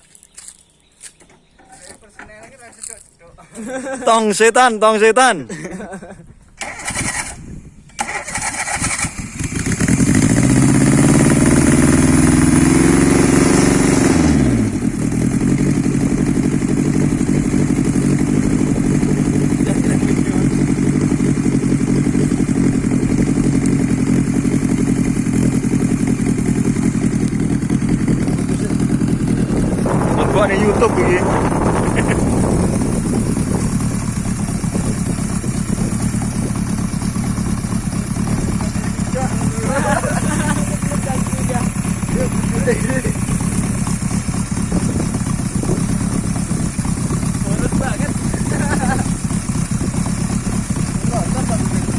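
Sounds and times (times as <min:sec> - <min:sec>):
car engine idling: 0:08.0 - 0:51.9.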